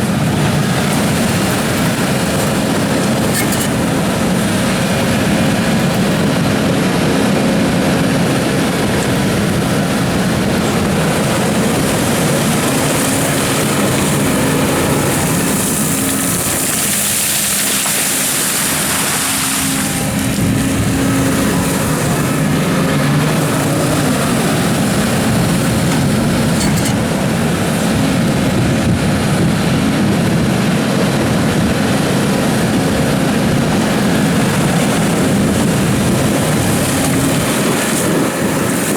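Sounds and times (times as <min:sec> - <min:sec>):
excavator diesel engine running: 0:00.0 - 0:38.9
hydraulic working noise: 0:00.0 - 0:38.9.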